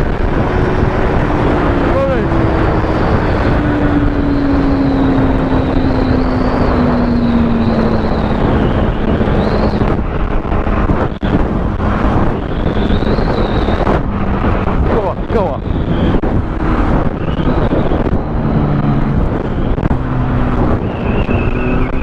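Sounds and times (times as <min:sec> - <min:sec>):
motorcycle engine: 0:00.0 - 0:22.0
wind rushing over microphone: 0:00.0 - 0:22.0.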